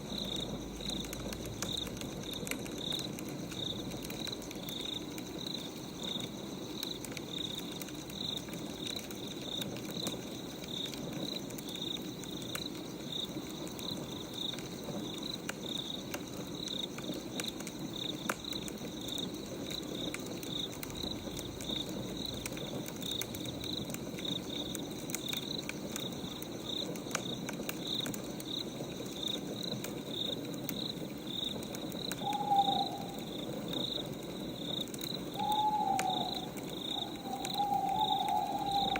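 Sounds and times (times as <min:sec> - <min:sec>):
crickets chirping: 0:00.0 - 0:38.9
wood fire crackling and popping: 0:00.0 - 0:38.9.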